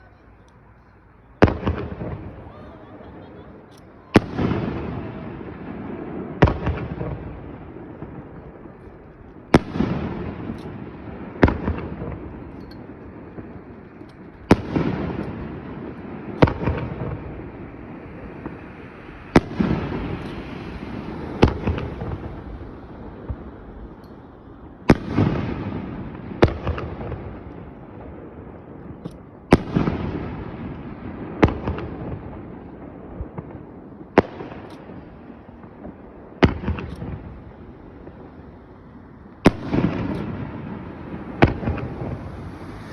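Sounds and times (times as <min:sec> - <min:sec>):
firework shells bursting: 0:00.2 - 0:42.8.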